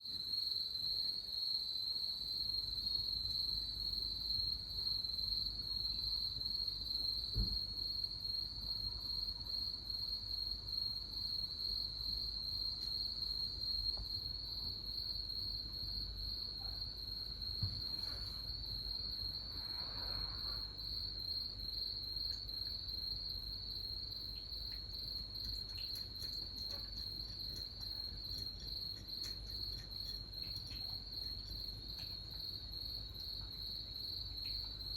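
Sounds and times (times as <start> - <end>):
crickets trilling: 0.2 - 34.9.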